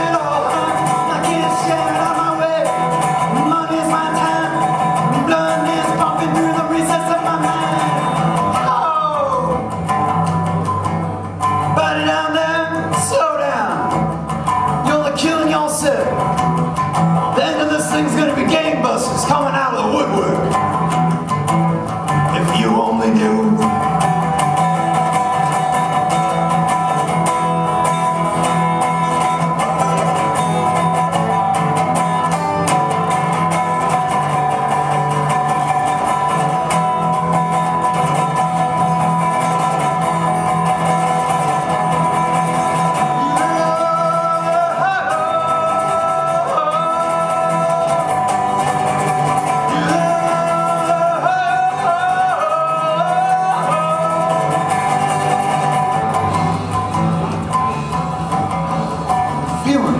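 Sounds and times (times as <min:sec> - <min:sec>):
resonator guitar playing: 0:00.0 - 0:59.9.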